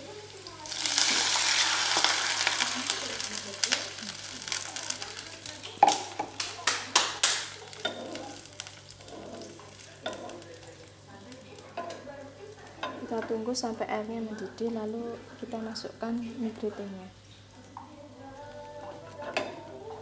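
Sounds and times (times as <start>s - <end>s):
oil sizzling in pan: 0.0s - 20.0s.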